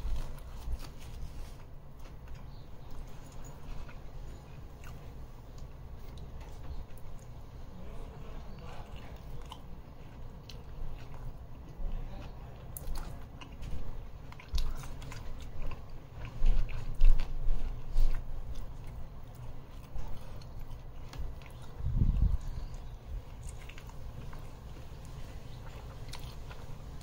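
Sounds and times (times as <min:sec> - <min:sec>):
person chewing food: 0:00.0 - 0:07.7, 0:08.5 - 0:27.0.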